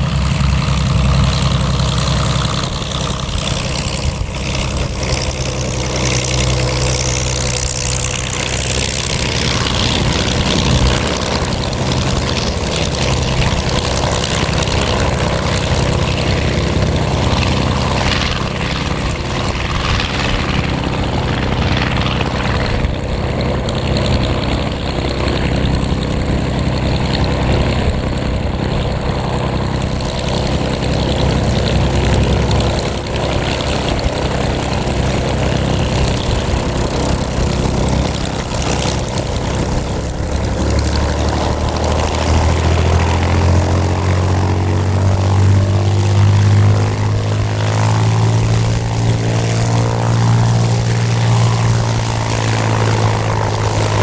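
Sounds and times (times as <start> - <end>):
piston aircraft engine droning: 0.0 - 54.0.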